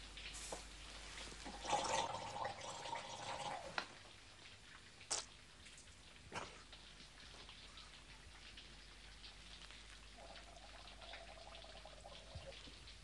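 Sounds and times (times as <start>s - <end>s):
faint rain patter: 0.0s - 13.0s.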